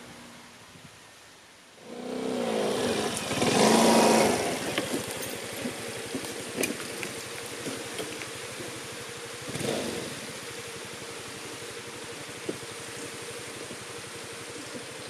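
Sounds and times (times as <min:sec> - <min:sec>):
scooter engine starting and running: 0:01.8 - 0:15.0.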